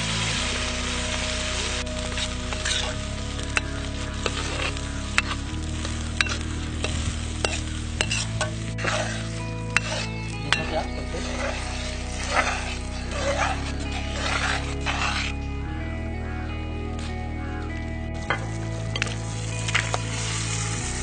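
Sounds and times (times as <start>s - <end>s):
curry sizzling in a pan: 0.0s - 15.3s, 19.0s - 21.0s.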